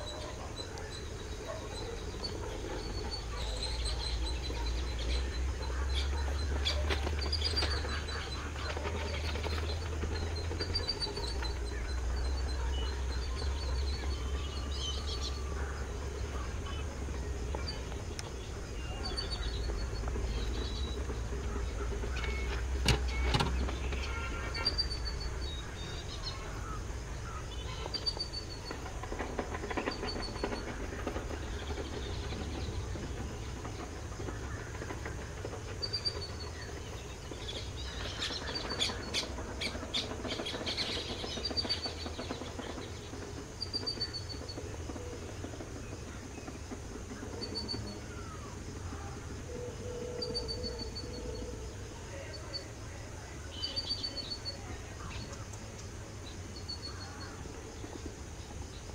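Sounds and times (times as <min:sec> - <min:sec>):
bird chirping: 0:00.0 - 0:58.9
distant diesel locomotive rumble: 0:00.0 - 0:58.9.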